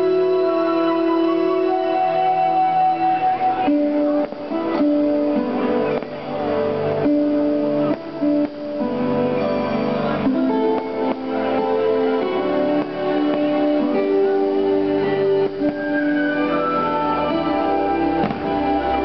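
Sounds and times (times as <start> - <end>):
plucked strings: 0.0 - 19.0
slow melody of held notes: 0.0 - 19.0.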